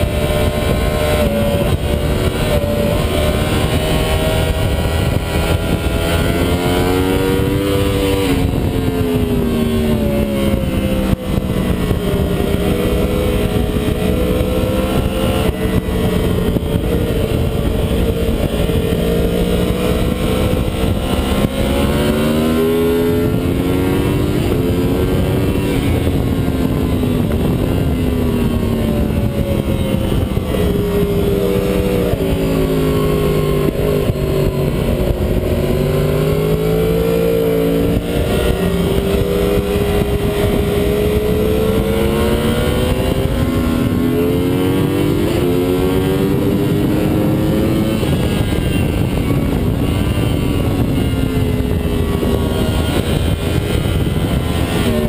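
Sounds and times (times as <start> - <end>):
motorcycle engine revving: 0.0 - 55.0
wind noise: 0.0 - 55.0.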